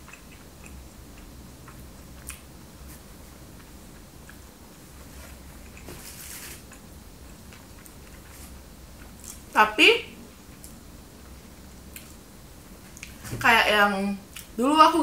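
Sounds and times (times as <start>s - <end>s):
soft hiss: 0.0s - 15.0s.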